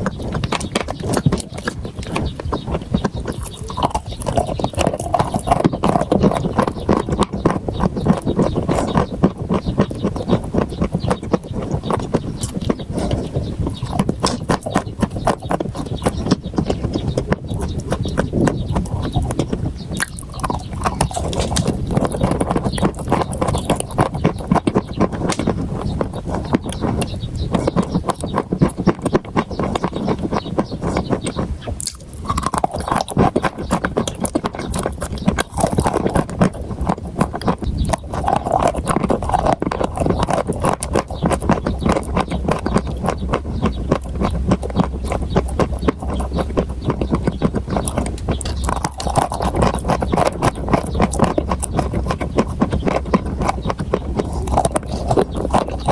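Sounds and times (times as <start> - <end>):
food crunching being chewed: 0.0 - 55.9.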